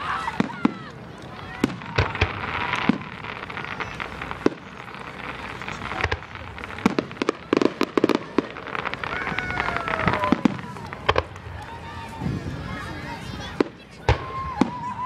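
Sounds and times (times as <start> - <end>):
firecrackers crackling pops: 0.0 - 12.6, 13.3 - 15.0
fireworks bangs: 0.0 - 15.0.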